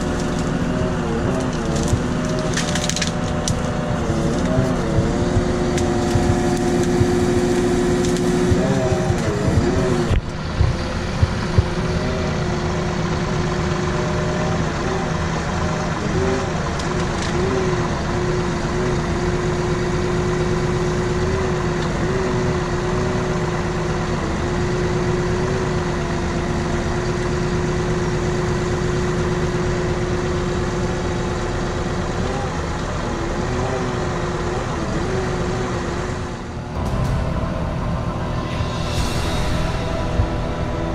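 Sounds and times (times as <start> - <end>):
steady whining tone: 0.0 - 40.9
tractor engine running: 0.0 - 40.9.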